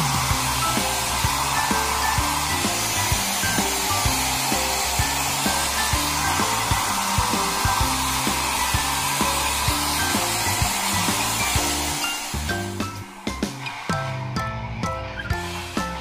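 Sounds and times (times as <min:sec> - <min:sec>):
hair dryer blowing: 0:00.0 - 0:14.2, 0:15.3 - 0:16.0
background music with drum beat: 0:00.0 - 0:16.0.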